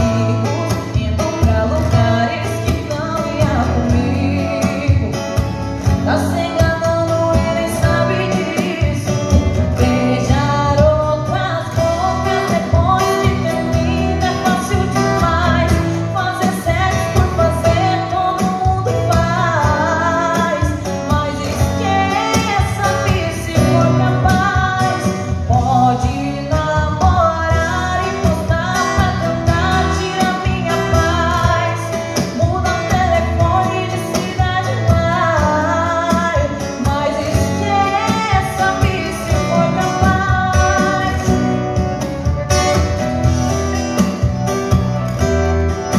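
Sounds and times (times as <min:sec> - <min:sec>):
woman singing into microphone: 0:00.0 - 0:42.4
strummed acoustic guitar: 0:00.0 - 0:45.9.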